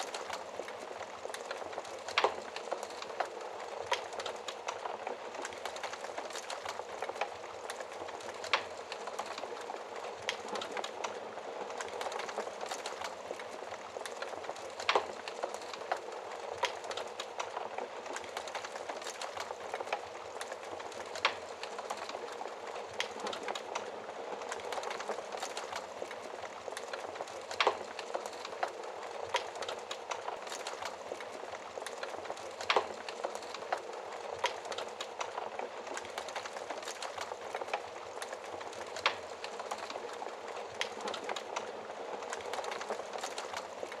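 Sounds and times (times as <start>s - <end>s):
fire popping: 0.0s - 44.0s
wood fire crackling: 0.0s - 44.0s.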